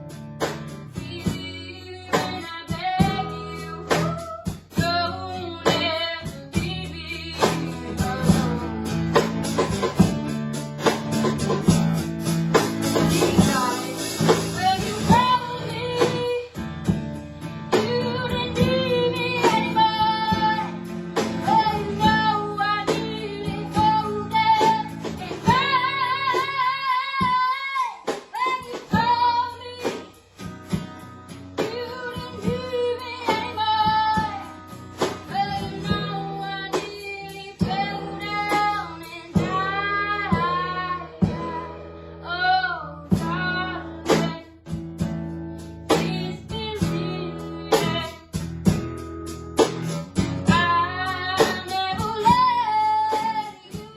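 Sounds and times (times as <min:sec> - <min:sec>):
guitar: 0:00.0 - 0:53.9
woman singing: 0:00.9 - 0:09.6, 0:12.8 - 0:17.0, 0:17.7 - 0:31.0, 0:31.6 - 0:44.7, 0:45.8 - 0:48.5, 0:50.4 - 0:53.9.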